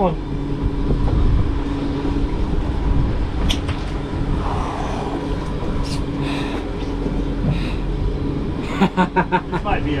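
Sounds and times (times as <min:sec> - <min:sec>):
outboard engines idling: 0:00.0 - 0:10.0.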